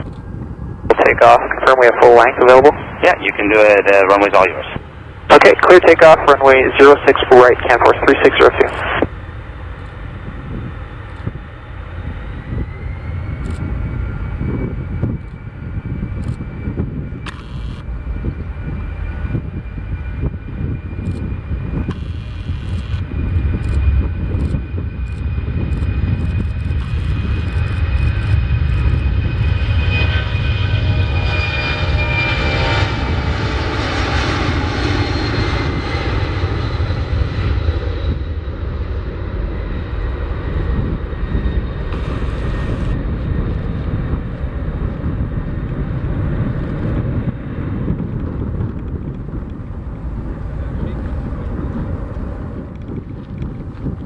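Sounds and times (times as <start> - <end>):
jet engines roaring with whine: 0.0 - 54.0.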